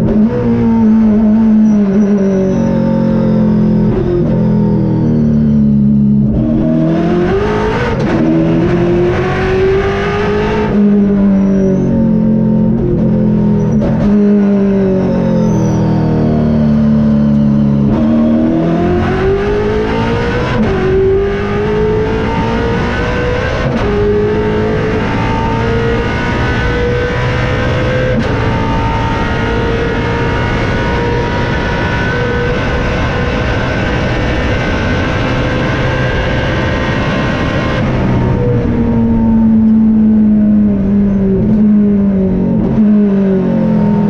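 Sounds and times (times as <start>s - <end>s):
racing car engine shifting gears: 0.0s - 44.0s.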